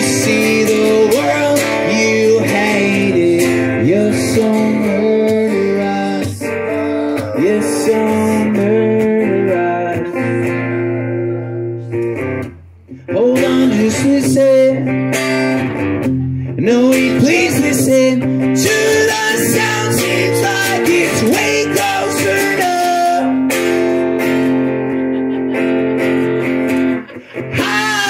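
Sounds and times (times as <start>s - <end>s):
man singing: 0.0s - 12.0s, 13.0s - 15.6s, 16.4s - 23.9s, 27.1s - 28.0s
acoustic guitar strumming: 0.0s - 28.0s.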